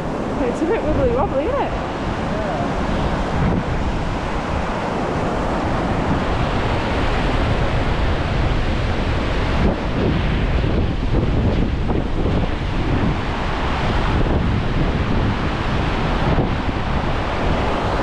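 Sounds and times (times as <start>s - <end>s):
river rushing: 0.0s - 18.0s
wind buffeting microphone: 0.0s - 18.0s.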